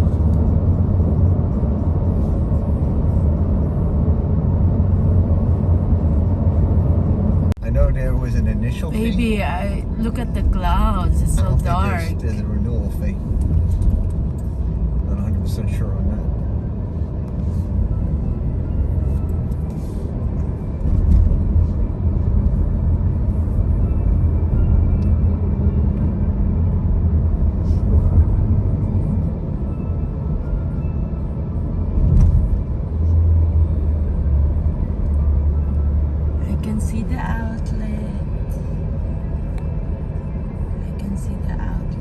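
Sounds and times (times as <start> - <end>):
road and engine noise in car: 0.0 - 42.0.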